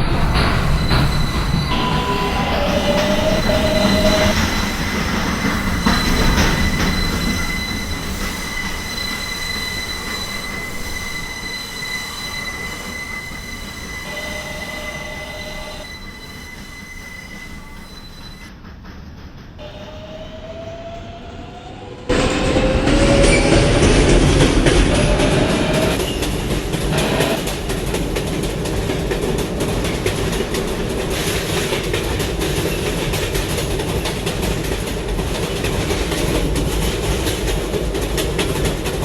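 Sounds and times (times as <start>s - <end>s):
high-pitched train whine: 0.0s - 39.0s
subway train wheel and track rumble: 0.0s - 39.0s.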